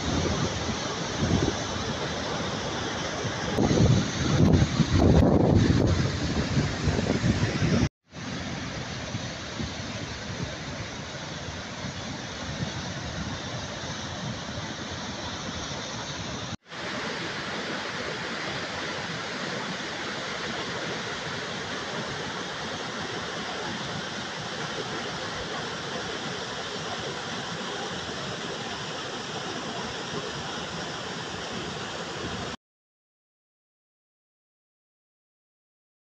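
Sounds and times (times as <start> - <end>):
waterfall rushing over rock: 0.0 - 32.6.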